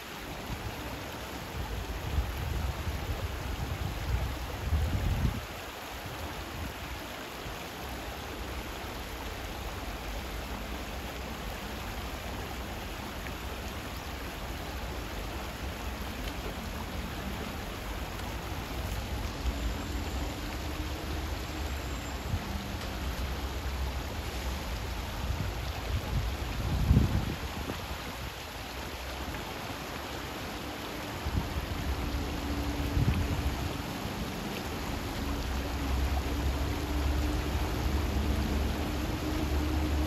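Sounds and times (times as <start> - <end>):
stream running over pebbles: 0.0 - 40.0.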